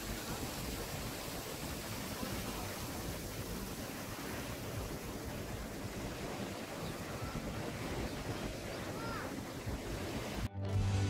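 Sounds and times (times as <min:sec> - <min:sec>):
light surf on shore: 0:00.0 - 0:10.5
wind: 0:00.0 - 0:11.0.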